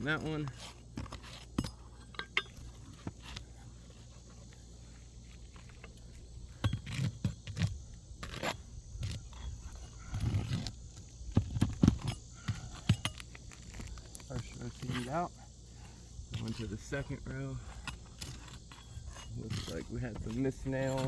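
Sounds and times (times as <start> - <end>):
metal tools clinking and scraping: 0.0 - 21.0.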